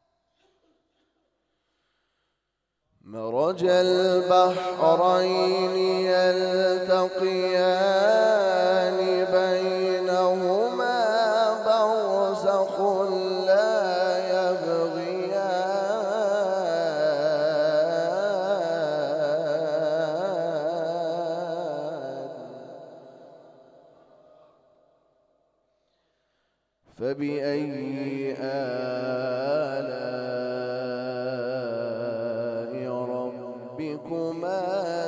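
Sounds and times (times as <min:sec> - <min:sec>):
man reciting in melodic chant: 0:03.0 - 0:24.4, 0:26.9 - 0:35.0.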